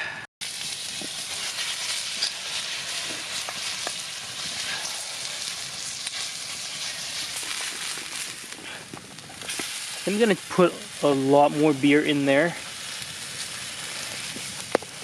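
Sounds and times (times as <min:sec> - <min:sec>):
food sizzling in a pan: 0:00.4 - 0:15.0.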